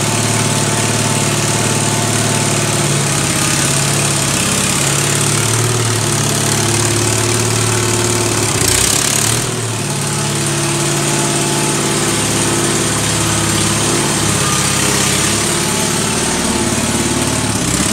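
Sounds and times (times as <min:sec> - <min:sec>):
tractor engine running: 0:00.0 - 0:17.9.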